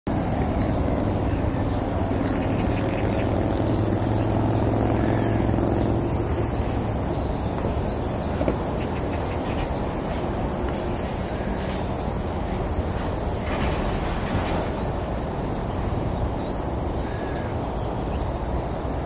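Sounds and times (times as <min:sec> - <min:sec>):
vehicle hum: 0:00.1 - 0:19.0.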